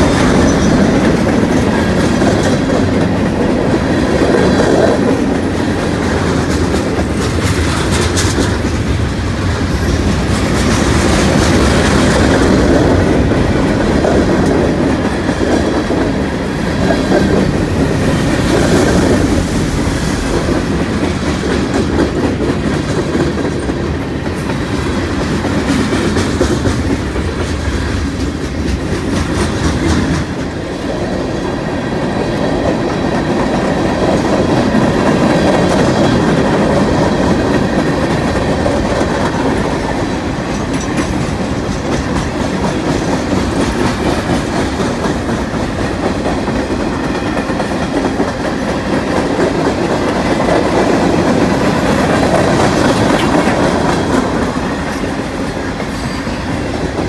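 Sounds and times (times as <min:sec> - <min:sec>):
freight train wheels clicking on rails: 0:00.0 - 0:57.0.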